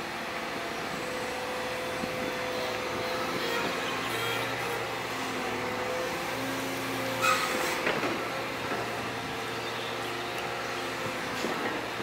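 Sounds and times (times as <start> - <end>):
excavator engine humming: 0.0 - 12.0.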